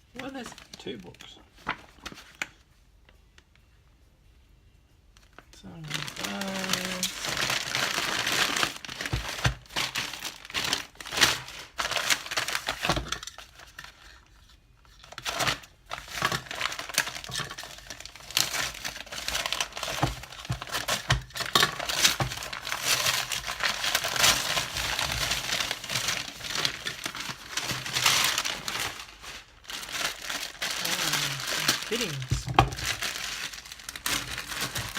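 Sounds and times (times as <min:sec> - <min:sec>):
packaging crumpling and tearing: 0:00.1 - 0:02.6, 0:05.2 - 0:34.9.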